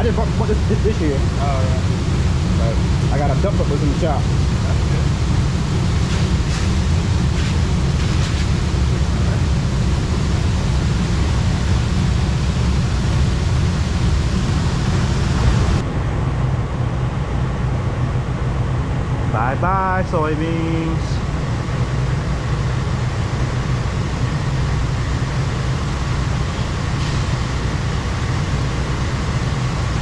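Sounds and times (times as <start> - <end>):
broad rushing noise: 0.0 - 30.0
heavy vehicle engine rumbling: 0.0 - 30.0.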